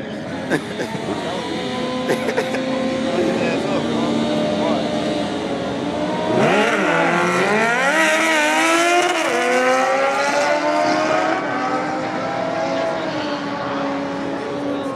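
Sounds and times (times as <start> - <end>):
motorcycle engine accelerating: 0.3 - 14.9.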